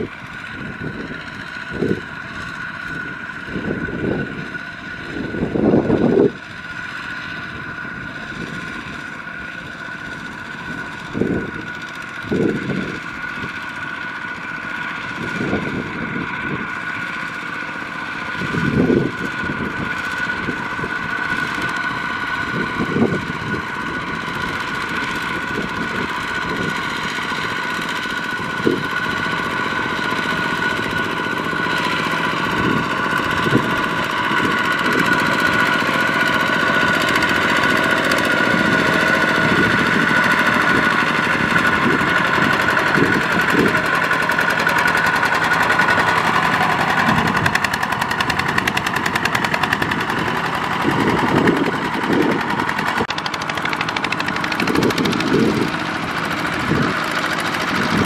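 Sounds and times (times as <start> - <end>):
diesel engine knocking under load: 0.0 - 58.0.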